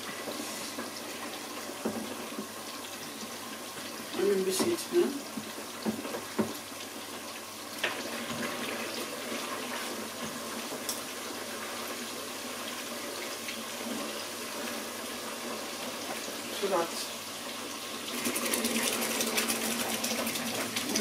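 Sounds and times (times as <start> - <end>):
food sizzling in a pot: 0.0 - 21.0.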